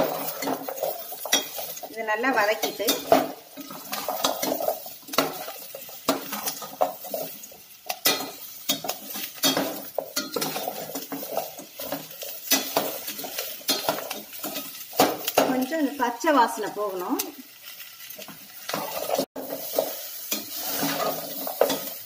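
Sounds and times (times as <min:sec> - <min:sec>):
metal spatula scraping a pot: 0:00.0 - 0:15.7, 0:18.5 - 0:22.0
vegetables sauteing in oil: 0:00.0 - 0:22.0.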